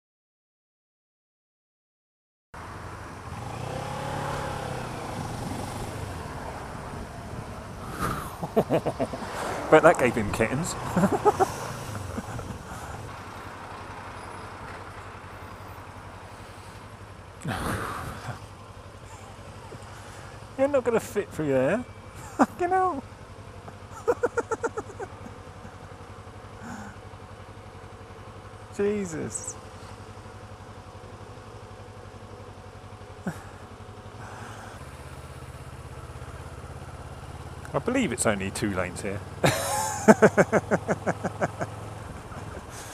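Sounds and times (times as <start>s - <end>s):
motorcycle engine running: 2.6s - 42.9s
road and wind hiss: 2.6s - 42.9s.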